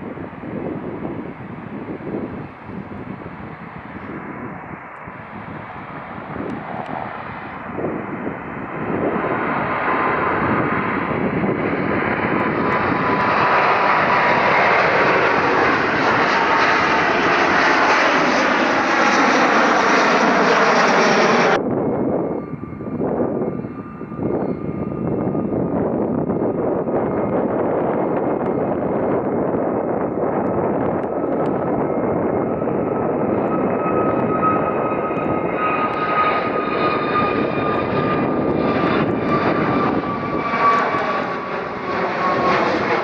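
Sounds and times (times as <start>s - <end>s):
jet airliner passing by: 0.0s - 43.0s
wind noise: 0.0s - 43.0s.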